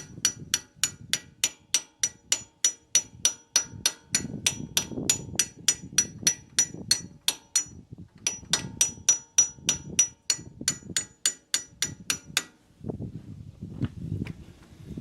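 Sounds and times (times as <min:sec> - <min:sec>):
hammer ringing on metal: 0:00.0 - 0:12.5.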